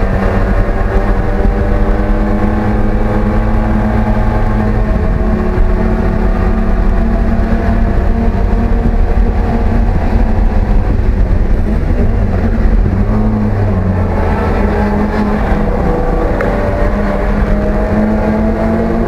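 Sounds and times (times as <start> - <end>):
racing car engine at high revs: 0.0 - 19.0
road and wind noise: 0.0 - 19.0.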